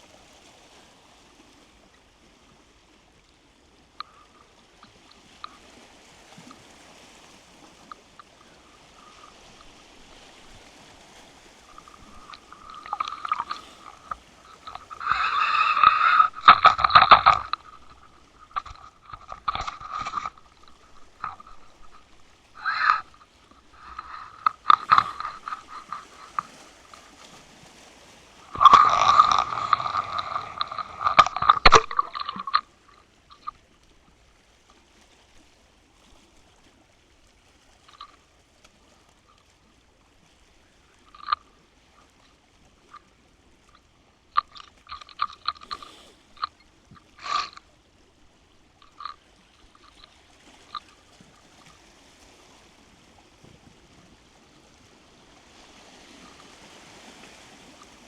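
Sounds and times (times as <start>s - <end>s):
short water splashes: 0.0s - 58.0s
water gurgling: 1.8s - 58.0s.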